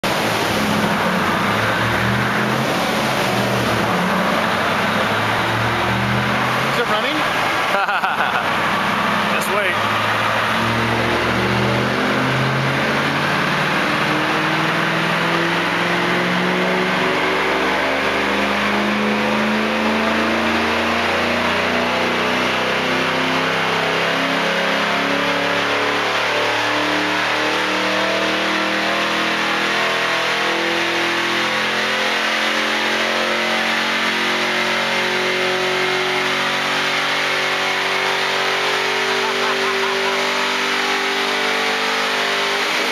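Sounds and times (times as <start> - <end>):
car engine revving under load: 0.0 - 42.9.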